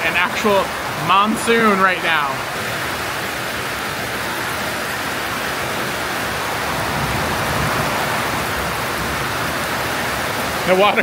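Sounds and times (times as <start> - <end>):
heavy rain on asphalt: 0.0 - 11.0.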